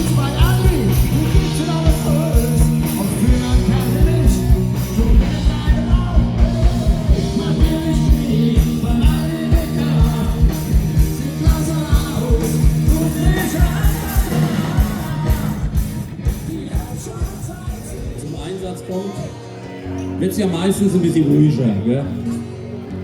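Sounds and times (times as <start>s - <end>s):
steady drum beat: 0.0s - 18.7s
bass line: 0.0s - 23.0s
live rock band playing: 0.0s - 23.0s.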